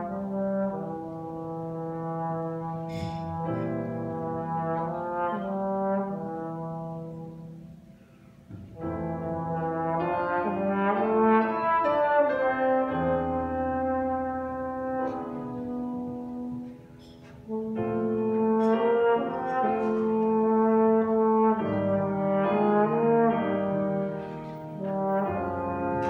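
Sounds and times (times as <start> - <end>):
trombone playing slow melody: 0.0 - 8.0, 8.6 - 26.0.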